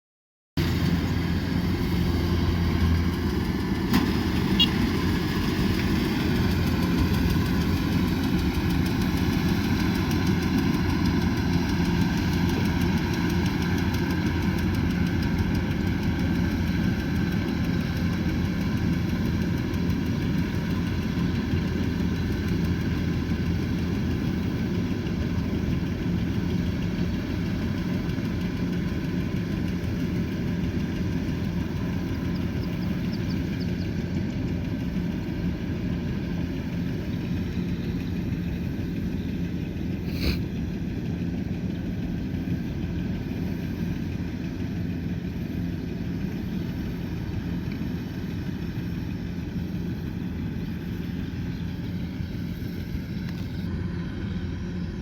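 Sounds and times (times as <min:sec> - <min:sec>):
diesel engine humming: 0:00.6 - 0:55.0.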